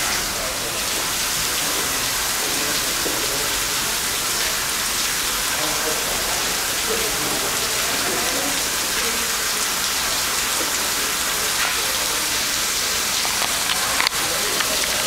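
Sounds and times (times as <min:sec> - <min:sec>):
water spray hissing: 0:00.0 - 0:15.0.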